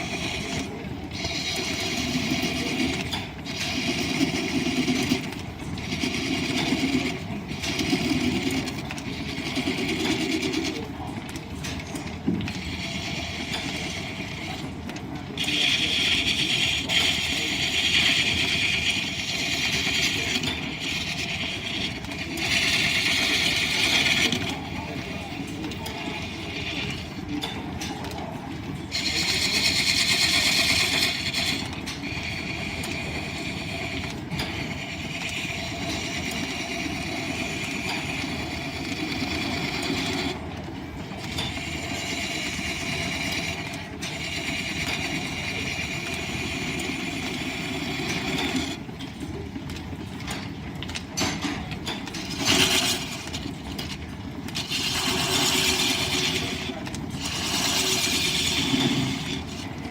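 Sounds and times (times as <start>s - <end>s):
tool cutting spinning wood: 0.0s - 10.9s, 12.4s - 27.5s, 28.8s - 40.4s, 41.1s - 48.9s, 51.9s - 59.9s
shafting and belts rumbling: 0.0s - 59.9s.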